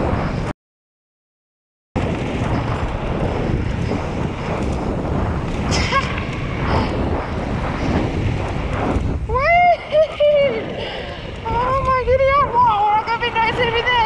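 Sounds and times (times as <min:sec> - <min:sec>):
wind buffeting microphone: 0:00.0 - 0:00.5, 0:02.0 - 0:14.0
bike tyres rolling on gravel: 0:02.0 - 0:14.0.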